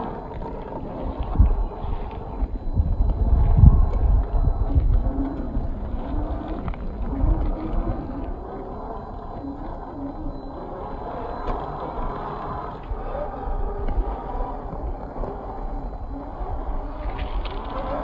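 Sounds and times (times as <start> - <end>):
heavy low rumble: 0.0 - 18.0
rc car motor whining: 0.0 - 18.0.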